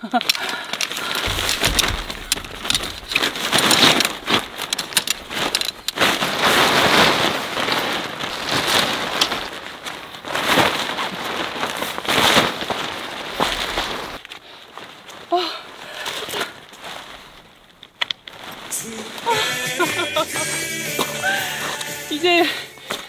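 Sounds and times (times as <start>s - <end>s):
tent fabric rustling and crinkling: 0.0s - 23.0s.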